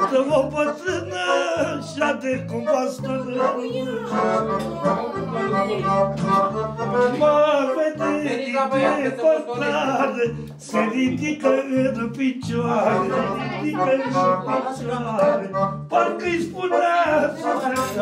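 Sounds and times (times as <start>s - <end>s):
bass notes: 0.0s - 18.0s
person singing: 0.0s - 18.0s.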